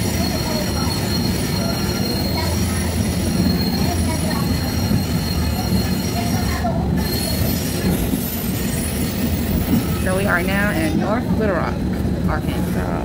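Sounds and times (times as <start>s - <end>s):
steel wheels squealing on track: 0.0s - 13.0s
streetcar rumbling on rails: 0.0s - 13.0s.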